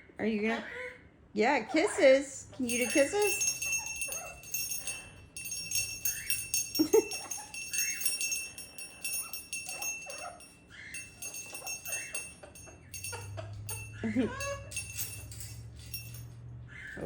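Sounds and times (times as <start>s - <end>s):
toy bell jingling: 2.6s - 16.5s.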